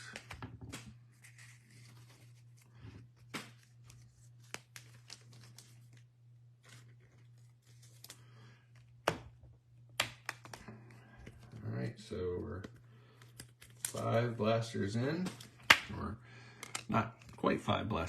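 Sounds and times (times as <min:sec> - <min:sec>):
cards and packaging rustling: 0:00.0 - 0:09.0, 0:09.9 - 0:18.0.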